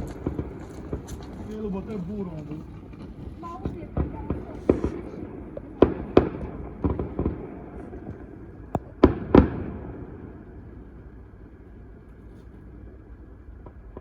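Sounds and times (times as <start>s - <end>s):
firework bangs: 0.0s - 11.2s
firework crack: 0.0s - 14.0s.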